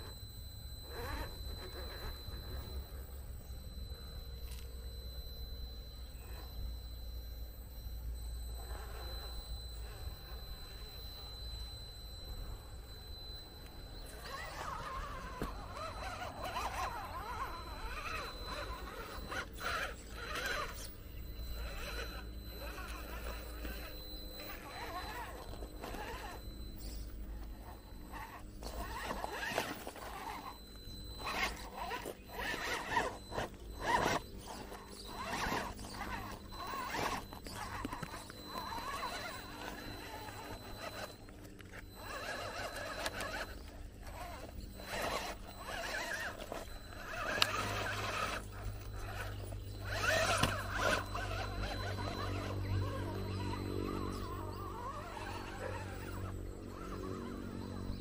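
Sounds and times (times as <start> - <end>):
toy car motor whining: 0.0 - 58.0.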